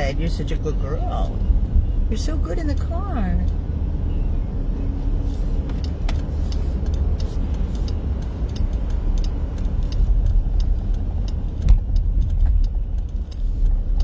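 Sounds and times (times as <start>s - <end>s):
road and engine noise in car: 0.0s - 14.0s.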